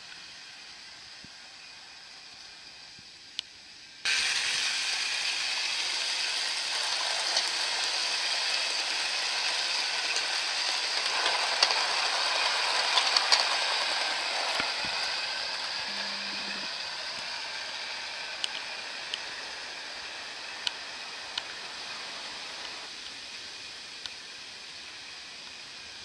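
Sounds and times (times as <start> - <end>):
model train rattling: 4.1 - 26.0.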